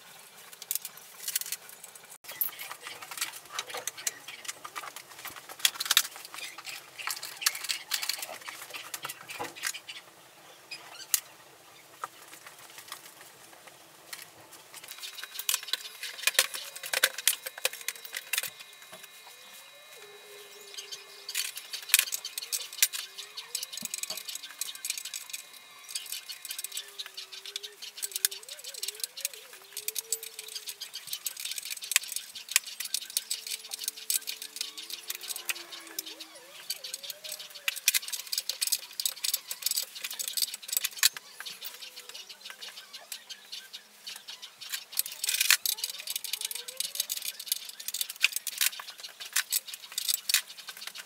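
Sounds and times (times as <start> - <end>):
metal parts and tools clinking: 0.5 - 9.8, 14.8 - 42.7, 44.7 - 51.0.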